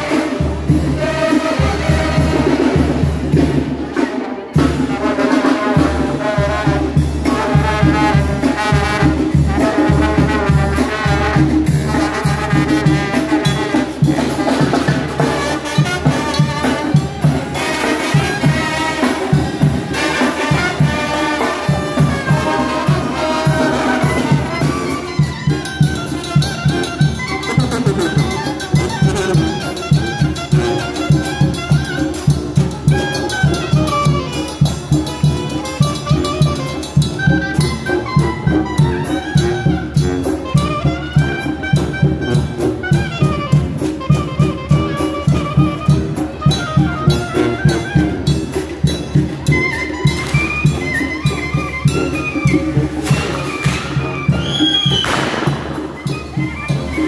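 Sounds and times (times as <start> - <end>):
brass band playing dance tune: 0.0 - 57.0
drums and cymbal beat: 0.0 - 57.0.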